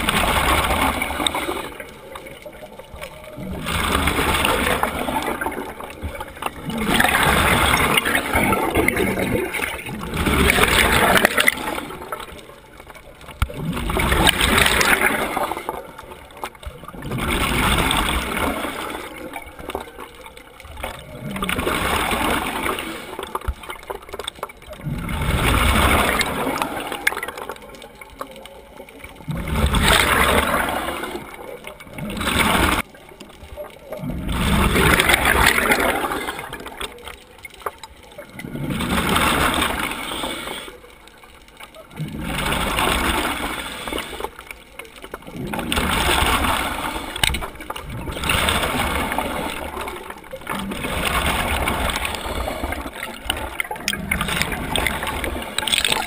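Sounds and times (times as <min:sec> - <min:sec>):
regulator bubbles gurgling underwater: 0:00.0 - 0:56.0.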